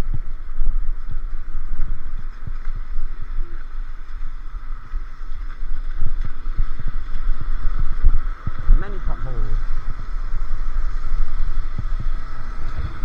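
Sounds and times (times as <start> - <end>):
electric scooter hum: 0.0 - 13.0
wind buffeting microphone: 0.0 - 13.0.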